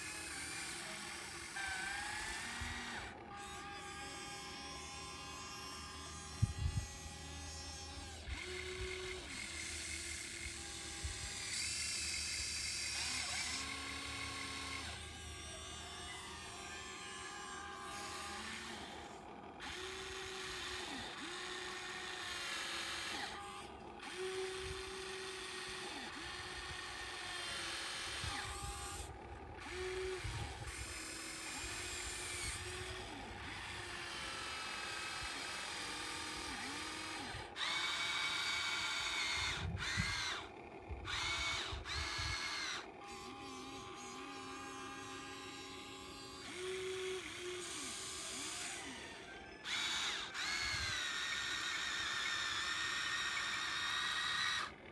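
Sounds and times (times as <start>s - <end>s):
electric motors whining: 0.0s - 54.9s
higher motor whine: 0.0s - 54.9s.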